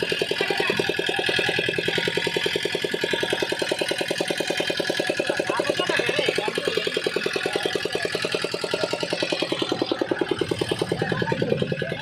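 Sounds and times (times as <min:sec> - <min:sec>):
fishing boat engine running: 0:00.0 - 0:12.0.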